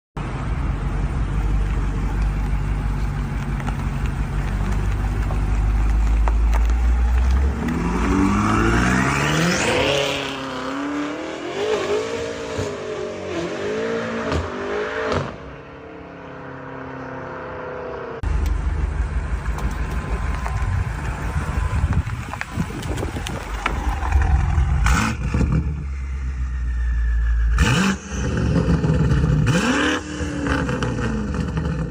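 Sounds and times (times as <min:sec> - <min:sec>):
car engine revving: 0:00.8 - 0:31.9.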